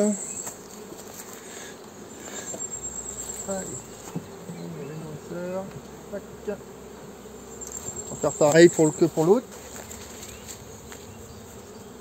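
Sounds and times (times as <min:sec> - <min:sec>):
bees droning close past: 0:00.0 - 0:12.0
honeybees buzzing: 0:00.0 - 0:12.0.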